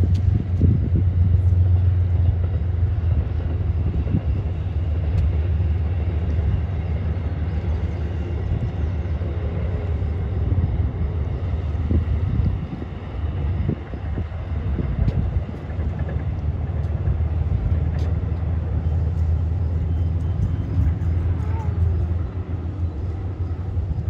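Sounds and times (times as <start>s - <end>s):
train rumbling: 0.0s - 24.0s
wind buffeting microphone: 0.0s - 24.0s.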